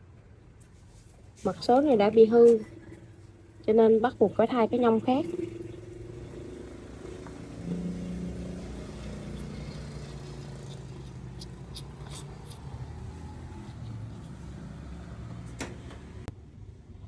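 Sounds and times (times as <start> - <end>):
vehicle engine running: 1.5 - 16.3.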